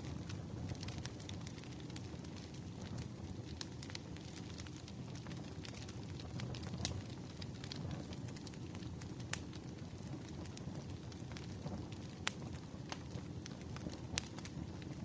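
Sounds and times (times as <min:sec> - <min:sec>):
fire crackles and pops: 0:00.0 - 0:15.0.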